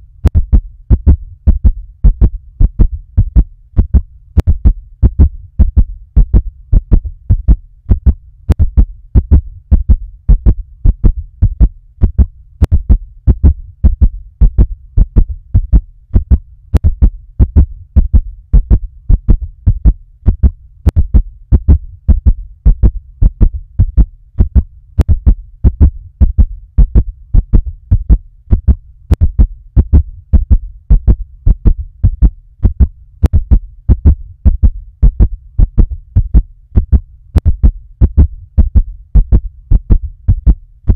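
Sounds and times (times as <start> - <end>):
fast heartbeat: 0.0 - 40.9.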